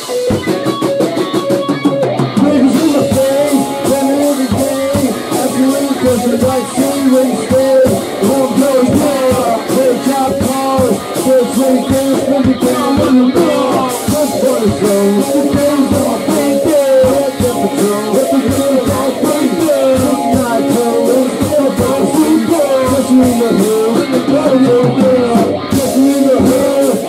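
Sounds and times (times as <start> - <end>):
rock band music: 0.0 - 27.0
voice over music: 2.4 - 27.0.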